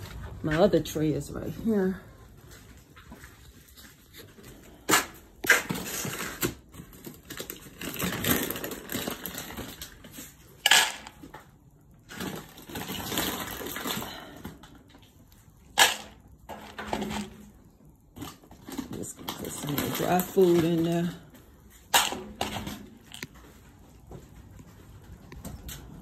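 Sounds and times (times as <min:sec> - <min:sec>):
plastic bag rustling: 0:01.7 - 0:26.0.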